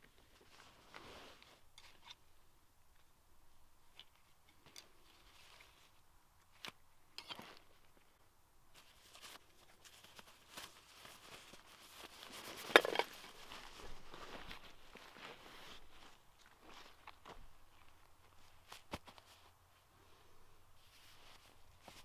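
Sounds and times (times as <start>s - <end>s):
fabric rustling: 0.1s - 2.2s, 3.8s - 6.7s, 7.3s - 19.8s, 20.7s - 22.0s.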